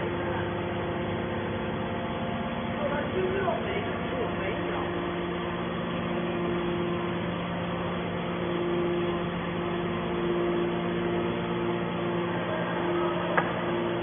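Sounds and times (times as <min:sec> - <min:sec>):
hydraulic baler humming: 0:00.0 - 0:14.0.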